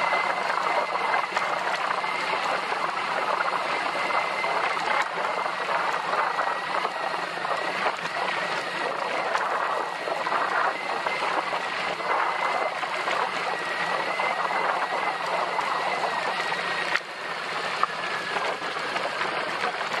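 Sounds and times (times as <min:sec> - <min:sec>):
motorcycle engine: 0:00.0 - 0:20.0
thin steady whine: 0:00.0 - 0:20.0
wind rushing over microphone: 0:00.0 - 0:20.0.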